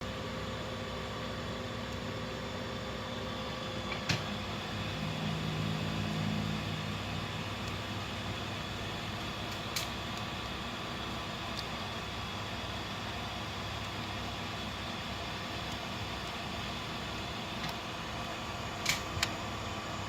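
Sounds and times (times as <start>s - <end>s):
air conditioner motor hum: 0.0s - 20.0s
low whirr: 0.0s - 20.0s.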